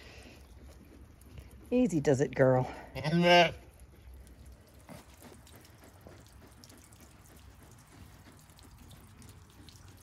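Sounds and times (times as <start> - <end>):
faint rain dripping: 0.0 - 10.0.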